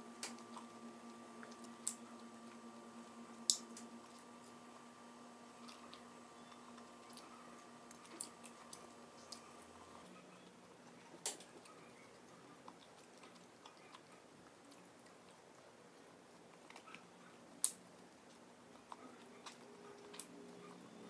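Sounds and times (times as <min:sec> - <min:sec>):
chewing crispy food: 0:00.2 - 0:21.0.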